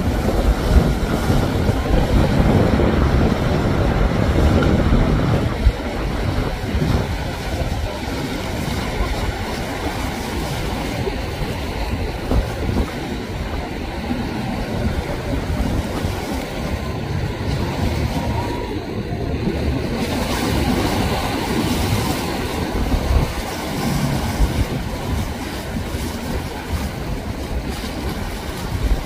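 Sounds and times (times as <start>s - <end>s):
boat engines rumbling: 0.0s - 29.0s
surf churning: 0.0s - 29.0s.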